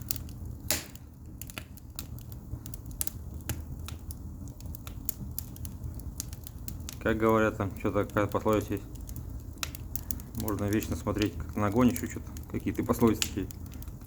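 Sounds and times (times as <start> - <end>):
logs crackling in fireplace: 0.0 - 14.0.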